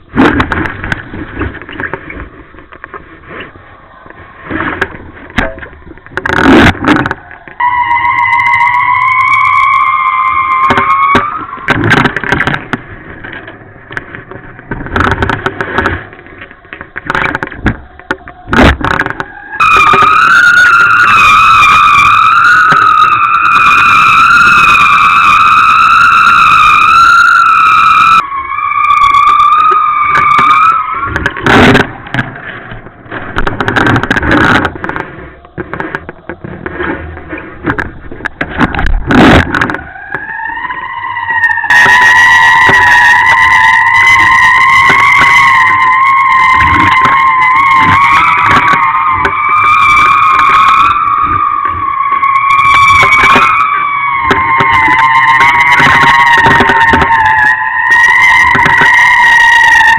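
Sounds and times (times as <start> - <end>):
wavering wind whistle: 0.0 - 59.9.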